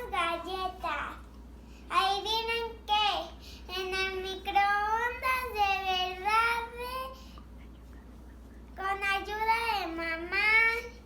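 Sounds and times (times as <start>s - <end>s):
young girl singing: 0.0s - 7.4s, 8.8s - 11.0s.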